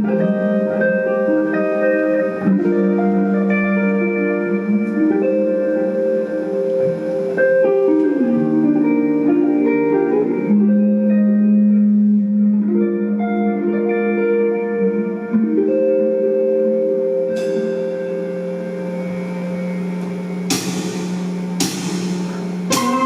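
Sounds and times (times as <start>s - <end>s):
live band guitar chords: 0.0s - 23.0s.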